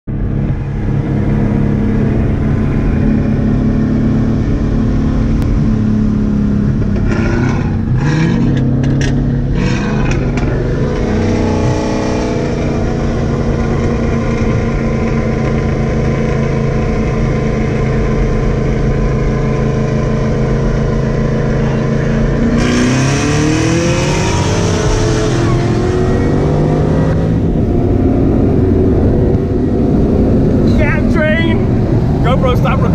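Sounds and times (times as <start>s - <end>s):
car engine heard from cabin: 0.1s - 32.9s.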